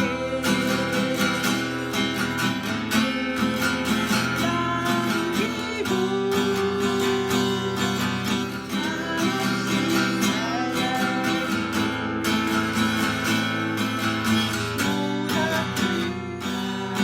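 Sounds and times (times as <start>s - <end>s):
acoustic guitar strumming waltz: 0.0s - 17.0s.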